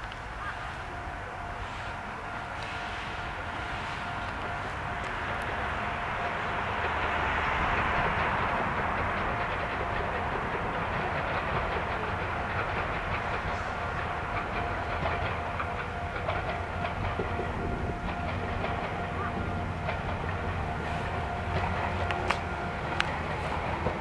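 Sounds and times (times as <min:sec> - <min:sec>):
train rumbling on track: 0:00.0 - 0:24.0
wheels clicking over rail joints: 0:00.0 - 0:24.0.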